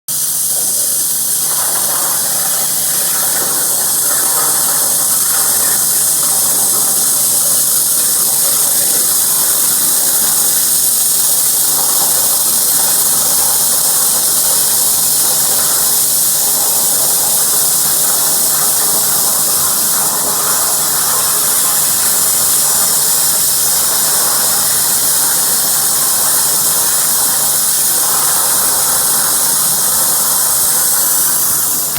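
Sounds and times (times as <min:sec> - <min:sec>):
plasma torch hissing: 0:00.1 - 0:31.9.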